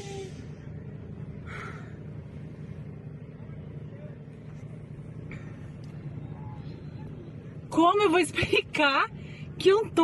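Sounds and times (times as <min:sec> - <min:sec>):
car engine drone in cabin: 0:00.0 - 0:10.0.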